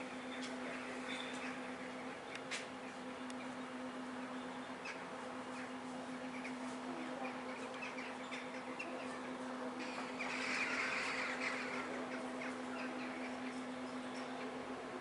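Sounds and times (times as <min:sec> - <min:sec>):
small birds chirping: 0:00.0 - 0:14.7
steady low hum: 0:00.0 - 0:15.0.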